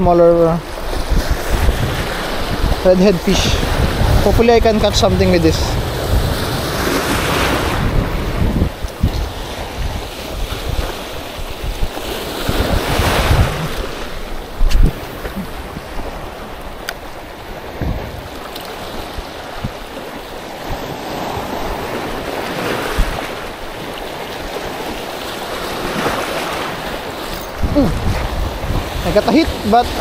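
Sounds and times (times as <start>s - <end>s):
sea waves washing onto beach: 0.0s - 30.0s
wind on microphone: 0.0s - 30.0s.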